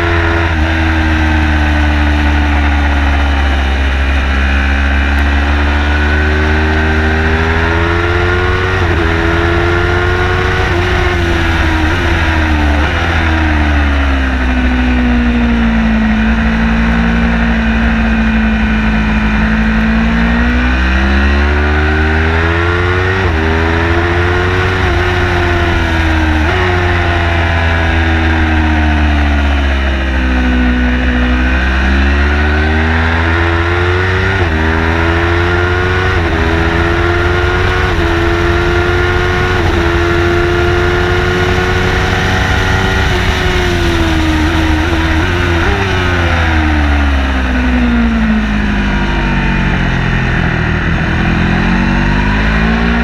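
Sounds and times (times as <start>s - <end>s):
race car engine accelerating: 0.0s - 53.0s
road and wind rumble: 0.0s - 53.0s.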